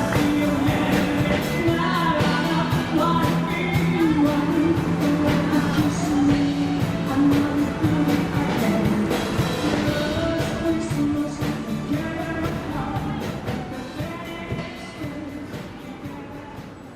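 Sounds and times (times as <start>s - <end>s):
rock band music: 0.0s - 16.9s.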